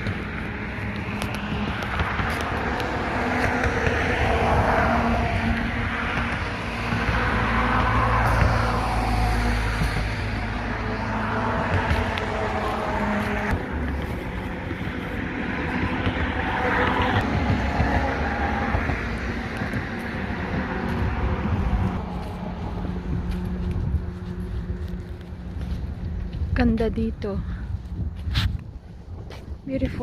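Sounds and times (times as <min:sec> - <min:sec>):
road traffic rumble: 0:00.0 - 0:30.0
wind buffeting microphone: 0:00.0 - 0:30.0.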